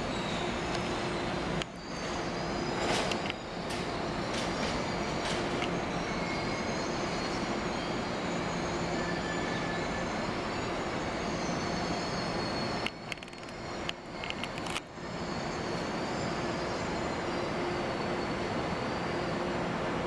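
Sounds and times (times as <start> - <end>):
train running on tracks: 0.0 - 20.0
thin wheel squeals: 0.1 - 19.6.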